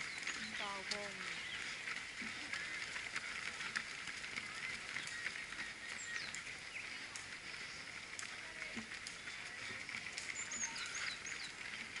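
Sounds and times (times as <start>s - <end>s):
runners' footsteps on asphalt: 0.0s - 12.0s.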